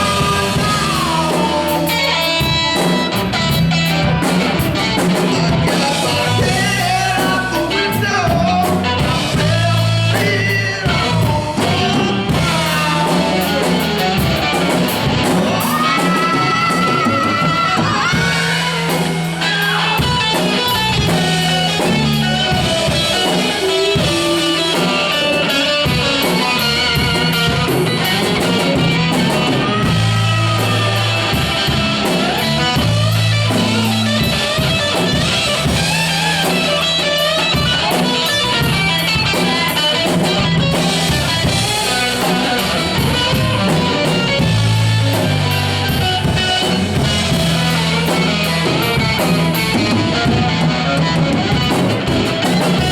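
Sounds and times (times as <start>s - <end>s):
bass line: 0.0s - 52.9s
drum kit: 0.0s - 52.9s
electric guitar lead: 0.0s - 52.9s.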